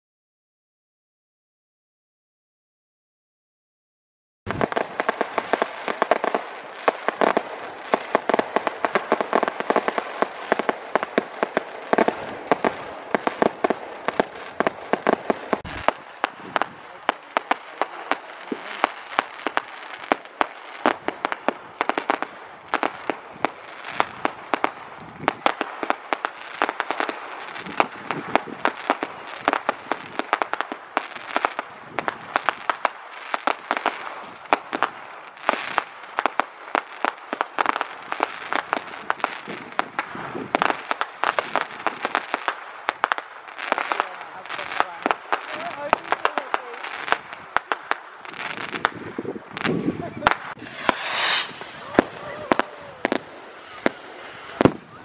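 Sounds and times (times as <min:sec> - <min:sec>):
fireworks crackling and popping: 0:04.5 - 0:55.0.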